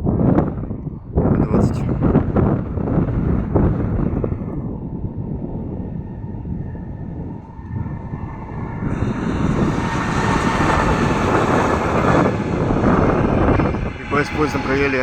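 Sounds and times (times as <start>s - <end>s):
locomotive rumble with whine: 0.0s - 15.0s
wheels rushing on rails: 2.0s - 15.0s.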